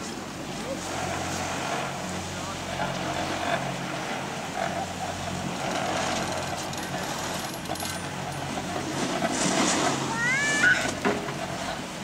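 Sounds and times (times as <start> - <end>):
chairlift machinery hum: 0.4 - 12.0.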